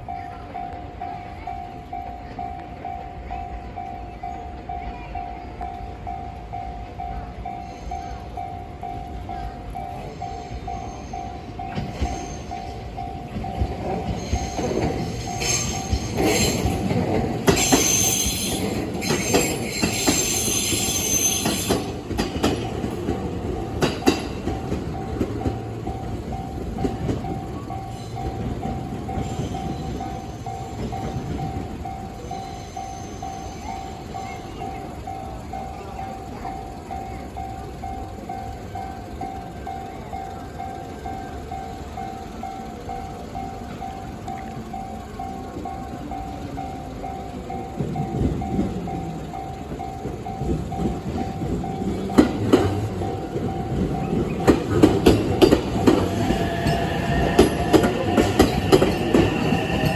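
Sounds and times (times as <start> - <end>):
train wheels clattering: 7.9 - 59.9.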